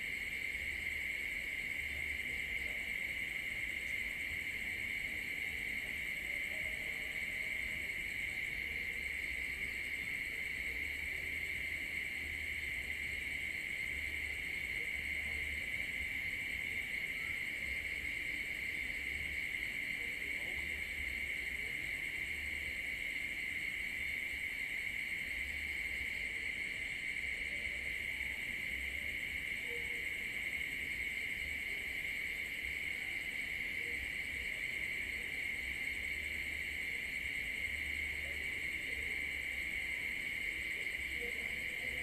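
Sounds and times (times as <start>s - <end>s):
crickets chirring: 0.0s - 42.0s.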